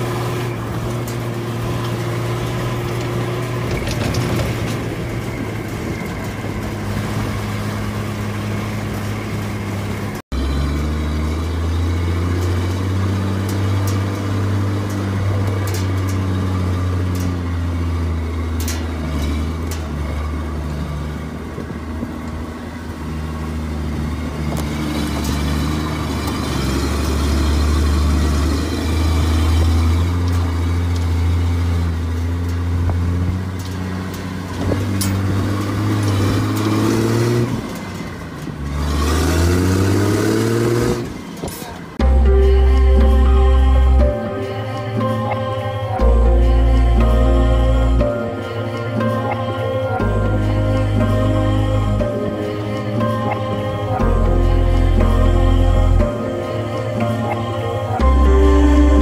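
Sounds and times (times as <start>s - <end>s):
engine revving up: 0.0s - 21.7s, 22.7s - 59.0s
vehicle engine running: 0.0s - 59.0s.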